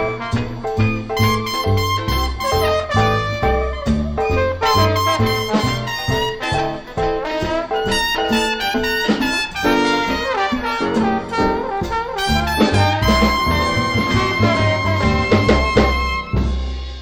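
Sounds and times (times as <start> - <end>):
swing jazz band playing: 0.0 - 17.0
long high horn note: 1.2 - 16.5.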